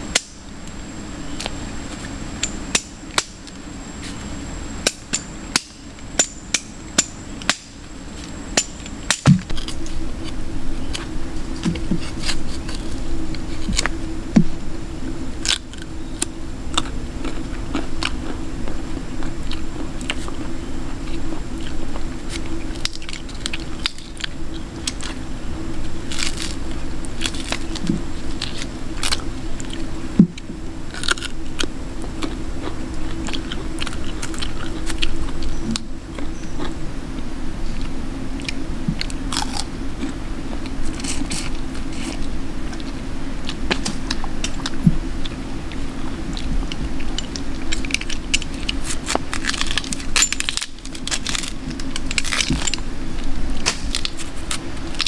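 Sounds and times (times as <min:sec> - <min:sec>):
steady low hum: 0:00.0 - 0:55.0
thin high whine: 0:00.0 - 0:55.0.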